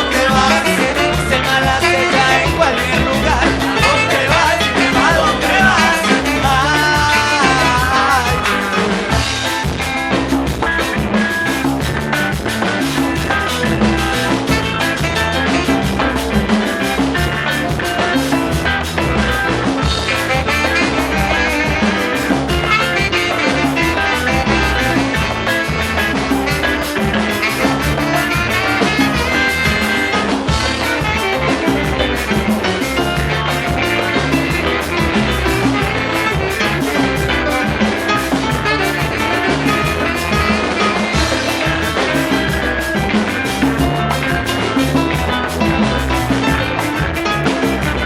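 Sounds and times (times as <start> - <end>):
band playing reggae-ska: 0.0 - 48.0
drum kit and bass beat: 0.0 - 48.0.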